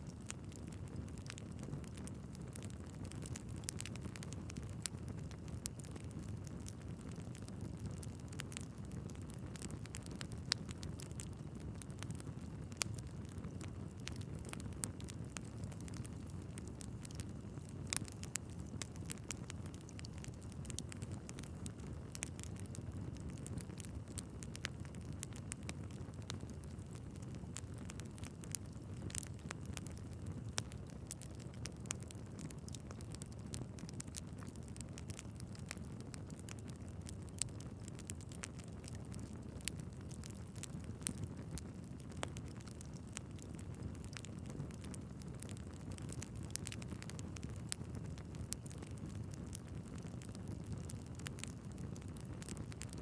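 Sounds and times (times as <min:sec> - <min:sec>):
fire crackling in fireplace: 0:00.0 - 0:53.0
flames rumbling: 0:00.0 - 0:53.0.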